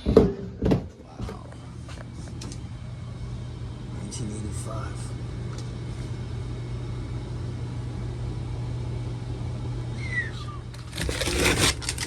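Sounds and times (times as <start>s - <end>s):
blower fan humming: 0.0s - 12.0s.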